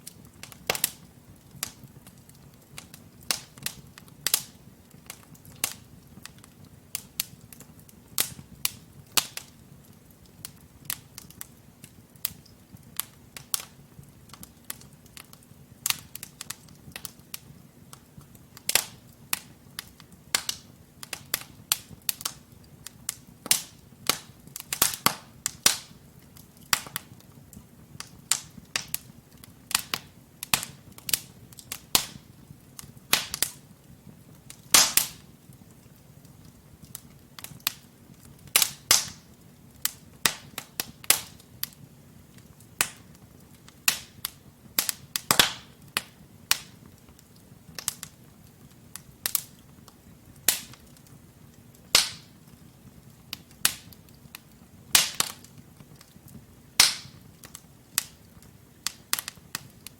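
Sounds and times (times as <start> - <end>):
low rumble of flames: 0.0 - 59.9
wood fire pops and snaps: 0.0 - 59.9.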